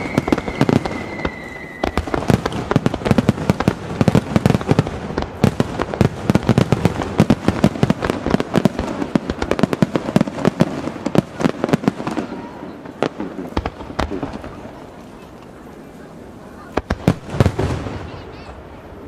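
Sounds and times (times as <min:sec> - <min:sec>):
fireworks bangs echoing: 0:00.0 - 0:19.0.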